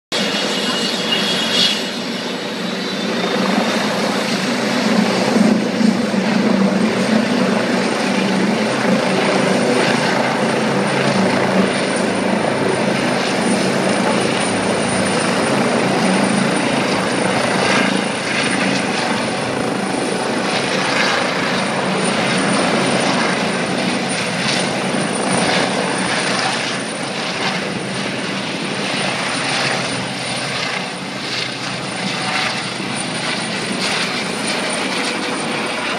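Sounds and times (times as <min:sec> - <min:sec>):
helicopter rotor and turbine: 0:00.1 - 0:35.9.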